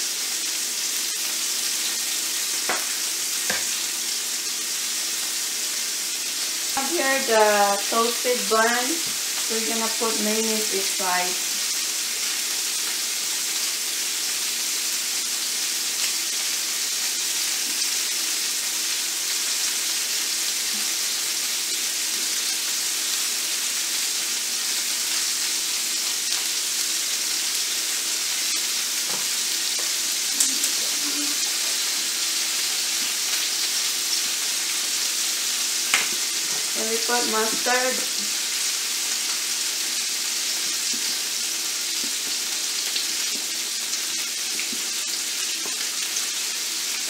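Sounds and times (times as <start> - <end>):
patties sizzling in a pan: 0.0 - 47.0.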